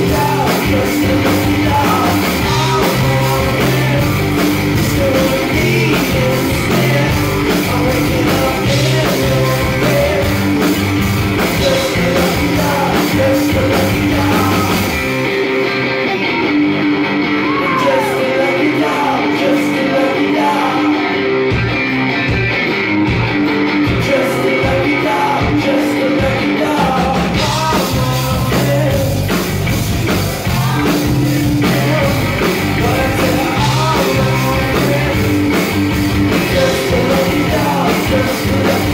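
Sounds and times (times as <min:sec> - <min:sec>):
man singing lead vocal: 0:00.0 - 0:15.2, 0:17.4 - 0:21.4, 0:23.8 - 0:38.9
rock band playing live: 0:00.0 - 0:38.9.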